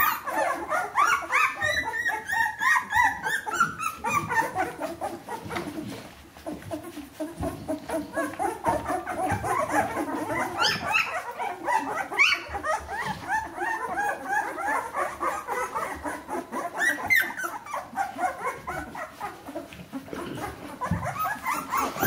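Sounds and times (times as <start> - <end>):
puppy yelps: 0.0 - 5.9, 6.5 - 19.8, 20.4 - 22.0
puppies squeaking and whimpering: 0.0 - 22.0.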